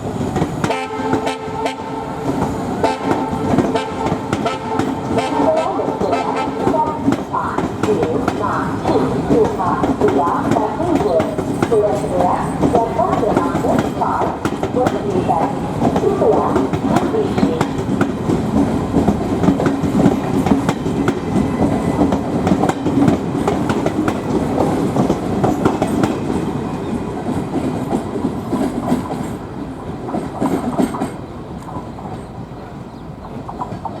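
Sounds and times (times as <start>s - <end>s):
train wheels clattering over rails: 0.0s - 34.0s.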